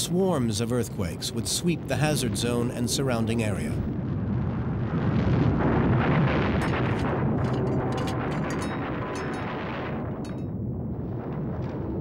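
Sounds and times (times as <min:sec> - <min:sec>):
earthquake low rumbling: 0:00.0 - 0:12.0.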